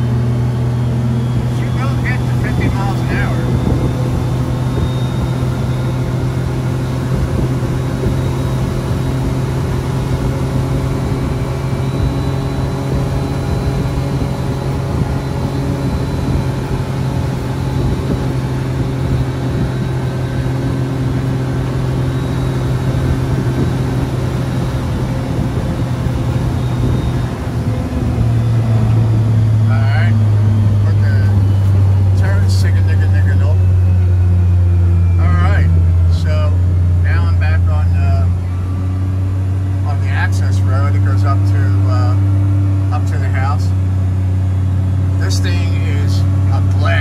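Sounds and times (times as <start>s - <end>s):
engine droning: 0.0s - 47.0s.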